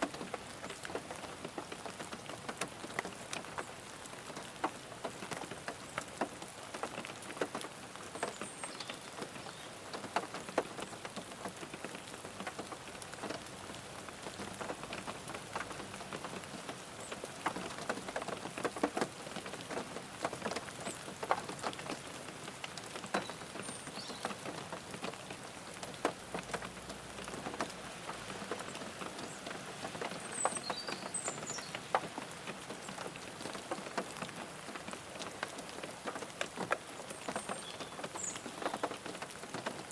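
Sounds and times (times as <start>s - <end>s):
rain hiss: 0.0s - 39.9s
raindrops tapping on car: 0.0s - 39.9s.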